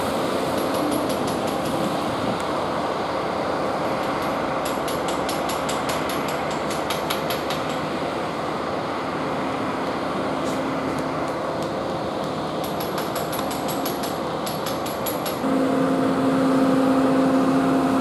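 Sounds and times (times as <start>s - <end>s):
diesel engine of road roller: 0.0s - 18.0s.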